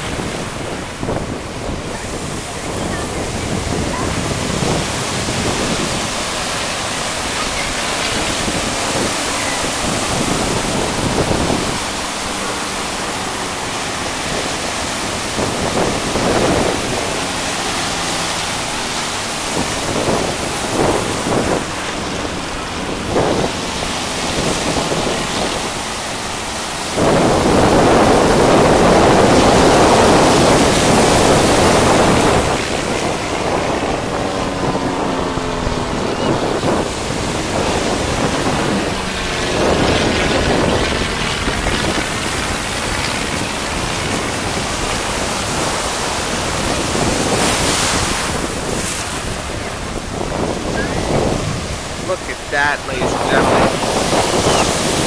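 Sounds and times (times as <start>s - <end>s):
distant propeller plane drone: 0.0s - 55.0s
surf rushing: 0.0s - 55.0s
wind buffeting microphone: 0.0s - 55.0s.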